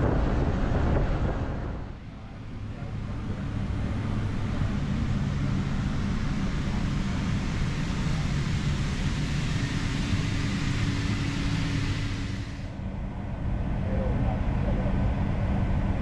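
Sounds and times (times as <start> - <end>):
low machinery hum: 0.0 - 16.0
wind: 0.0 - 16.0.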